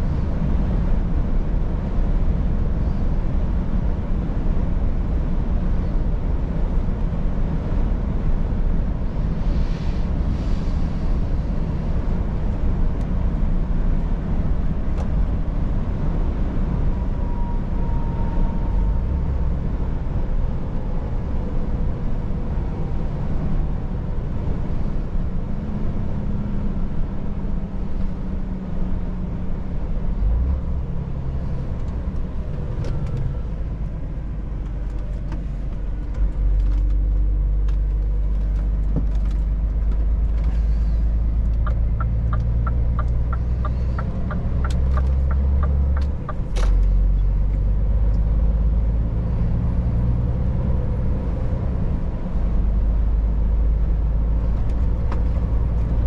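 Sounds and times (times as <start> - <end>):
truck diesel engine rumble: 0.0 - 56.0.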